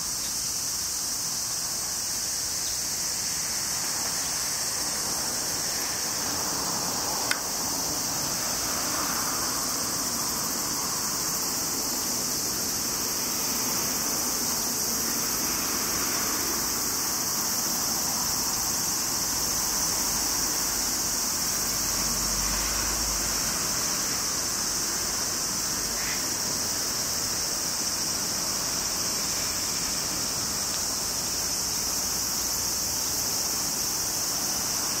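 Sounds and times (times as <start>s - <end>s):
cicadas droning: 0.0s - 35.0s.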